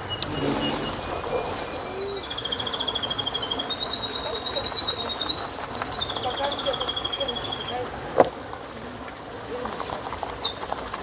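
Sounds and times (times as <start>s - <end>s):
songbird singing: 0.0s - 10.6s.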